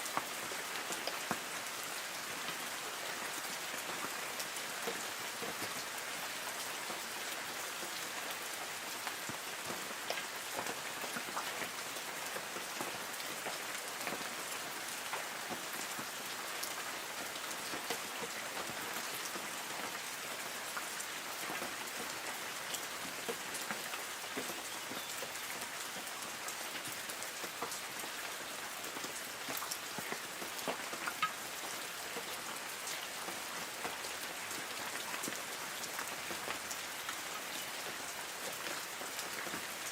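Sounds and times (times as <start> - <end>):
light rain on leaves: 0.0 - 39.9.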